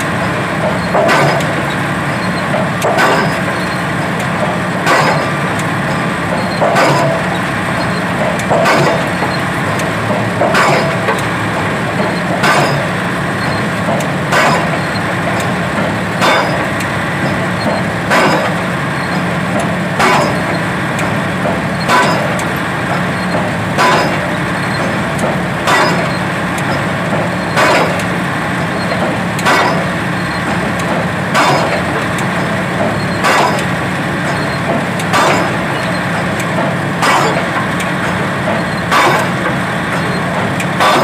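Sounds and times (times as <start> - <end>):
pile hammer blows: 0.0 - 3.7, 4.4 - 13.1, 13.9 - 28.2, 28.8 - 41.0
rig engine humming: 0.0 - 41.0.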